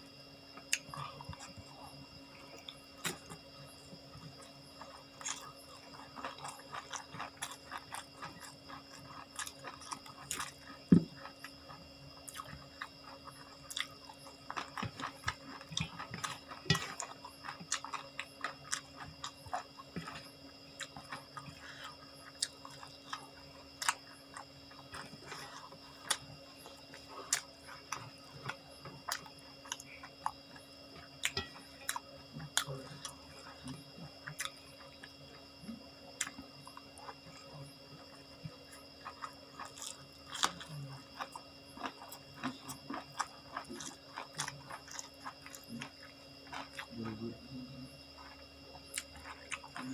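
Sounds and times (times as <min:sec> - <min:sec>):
faint steady hum: 0:00.0 - 0:49.9
person chewing food: 0:00.5 - 0:47.3, 0:47.9 - 0:49.9.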